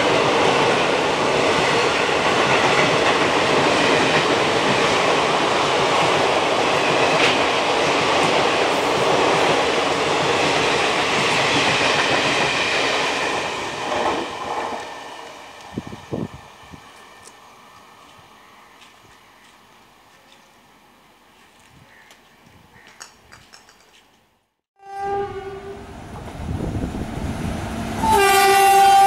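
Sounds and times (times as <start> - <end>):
passenger train passing: 0.0 - 19.9, 24.8 - 29.0.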